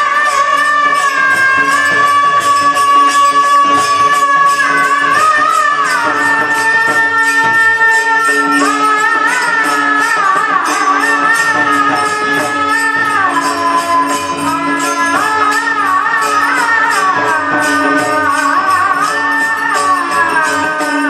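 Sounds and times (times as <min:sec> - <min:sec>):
hand cymbals: 0:00.0 - 0:21.0
woman singing: 0:00.0 - 0:21.0.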